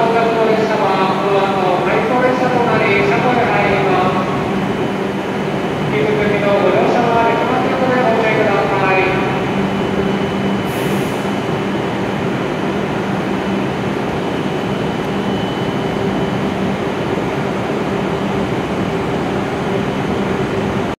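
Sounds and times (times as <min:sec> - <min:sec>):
train blower noise with low hum: 0:00.0 - 0:21.0.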